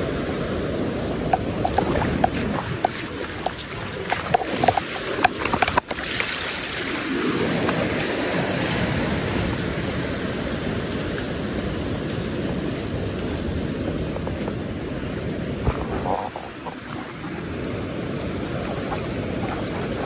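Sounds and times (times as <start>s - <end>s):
sea surf washing on beach: 0.0s - 20.0s.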